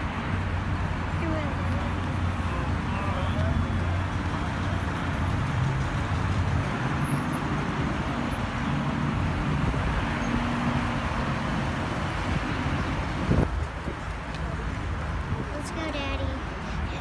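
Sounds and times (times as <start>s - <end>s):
car engines idling: 0.0s - 17.0s
outdoor background noise: 0.0s - 17.0s.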